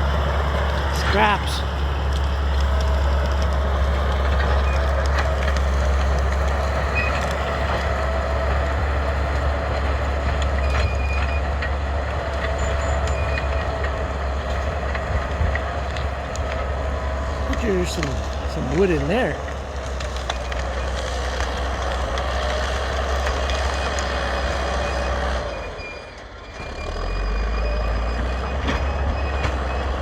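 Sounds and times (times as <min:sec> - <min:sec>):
bulldozer diesel engine rumbling: 0:00.0 - 0:30.0.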